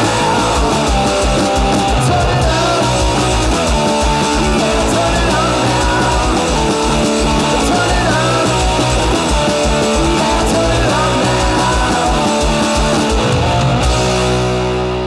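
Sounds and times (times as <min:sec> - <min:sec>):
garage rock band playing: 0:00.0 - 0:15.0.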